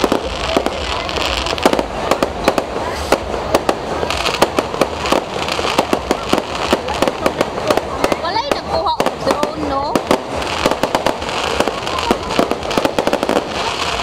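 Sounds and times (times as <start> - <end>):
fireworks bangs and pops: 0.0 - 14.0
hissing crackle of fireworks: 0.0 - 14.0.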